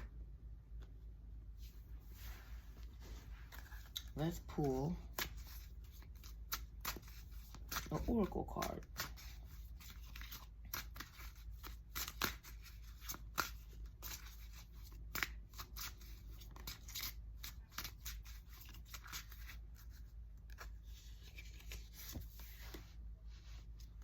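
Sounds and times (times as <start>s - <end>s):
cards being shuffled: 1.6s - 23.0s.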